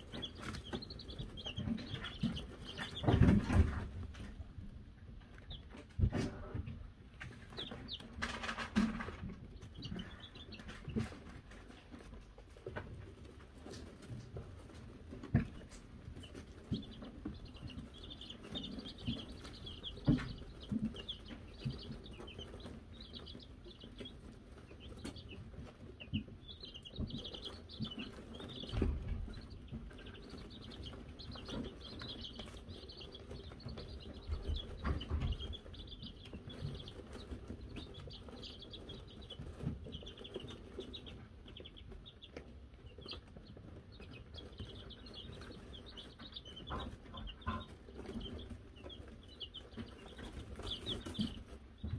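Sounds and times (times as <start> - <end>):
chicks peeping: 0.0 - 51.9.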